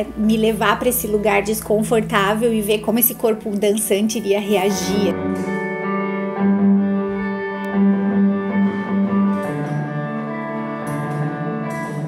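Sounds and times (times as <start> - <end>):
electric guitar sustained notes: 0.0 - 12.0.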